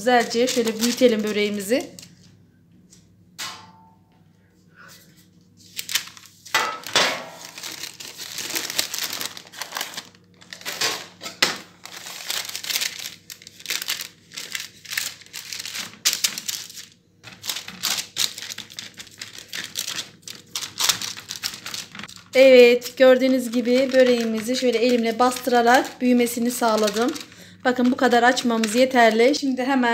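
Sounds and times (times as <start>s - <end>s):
baking paper rustling: 0.0s - 2.3s, 4.9s - 29.6s.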